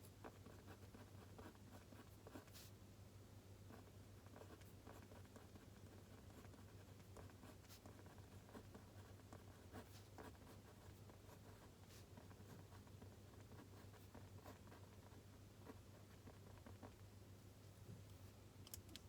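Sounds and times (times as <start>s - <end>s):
low steady hum: 0.0s - 19.0s
pen writing on paper: 0.2s - 2.6s, 3.7s - 16.9s.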